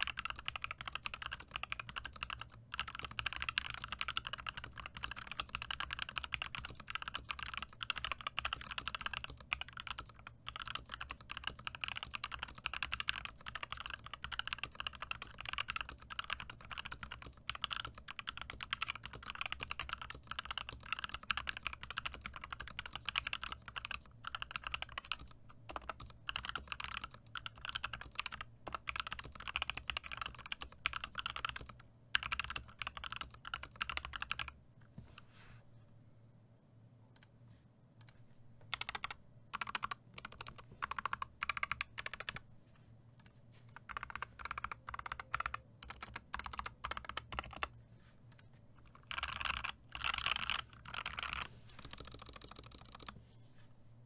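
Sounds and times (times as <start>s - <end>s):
fast mechanical keyboard typing: 0.0s - 34.6s, 38.7s - 42.4s, 43.8s - 47.7s, 48.3s - 53.2s.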